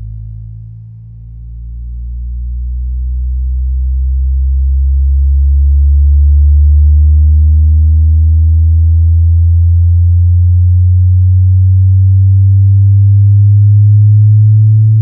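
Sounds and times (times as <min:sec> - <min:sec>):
rising sine test tone: 0:00.0 - 0:15.0.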